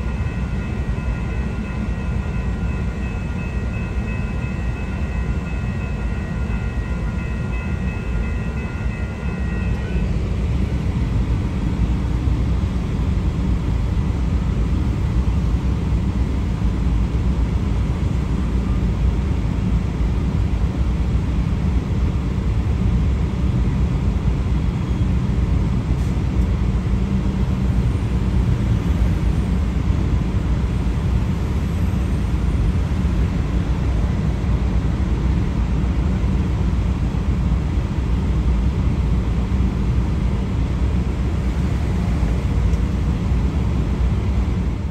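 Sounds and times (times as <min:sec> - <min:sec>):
road traffic rumble: 0:00.0 - 0:44.9.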